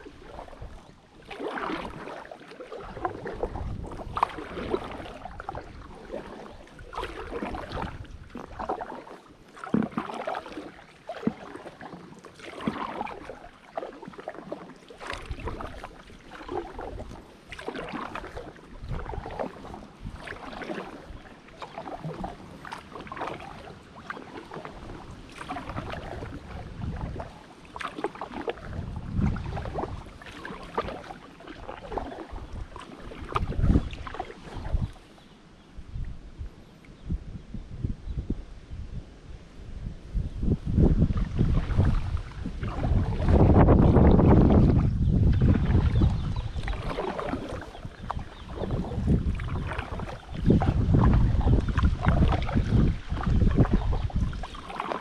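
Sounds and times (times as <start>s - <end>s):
kayak paddle splashing water: 0.0s - 35.4s, 40.4s - 55.0s.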